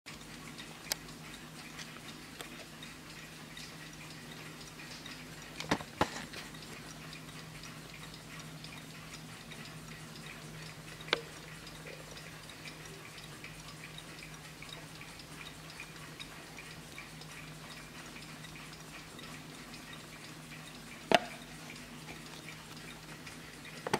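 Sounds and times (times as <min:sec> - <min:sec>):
clock ticking: 0:00.1 - 0:23.9
low steady hum: 0:00.1 - 0:23.9.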